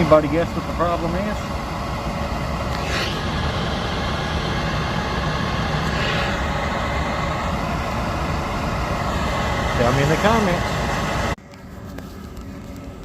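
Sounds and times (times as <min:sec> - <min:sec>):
package unit mechanical drone: 0:00.1 - 0:11.4.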